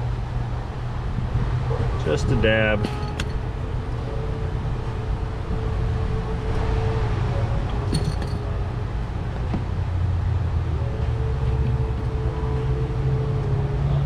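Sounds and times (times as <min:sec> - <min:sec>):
low machine hum: 0:00.0 - 0:14.0
steady tone: 0:00.0 - 0:14.0.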